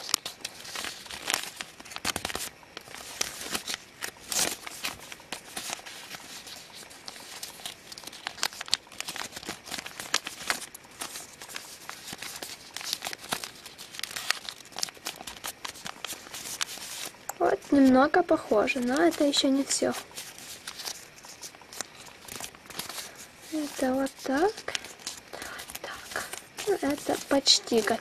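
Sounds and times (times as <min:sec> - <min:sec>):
paper being folded and creased: 0:00.0 - 0:28.0.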